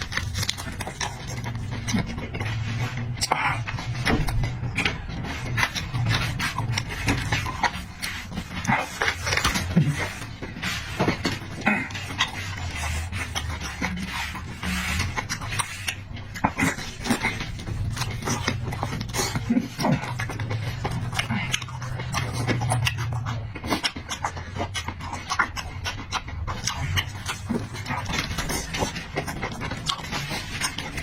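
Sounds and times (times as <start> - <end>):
wet chewing and lip-smacking: 0.0 - 31.0.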